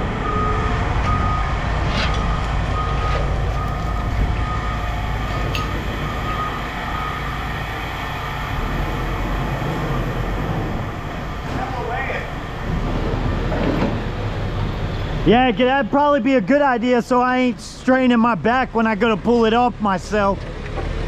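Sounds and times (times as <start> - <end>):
truck reversing alarm beeping: 0.0 - 19.8
truck engine running: 0.0 - 21.0.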